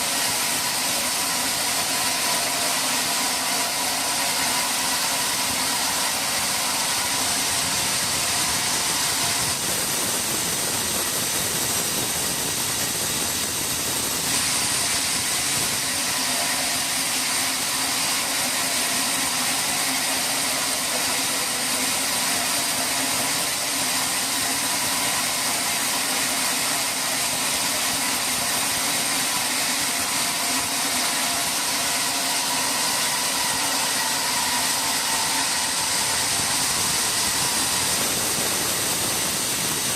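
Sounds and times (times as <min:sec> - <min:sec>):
hiss: 0:00.0 - 0:39.9
sawmill machinery drone: 0:00.0 - 0:39.9.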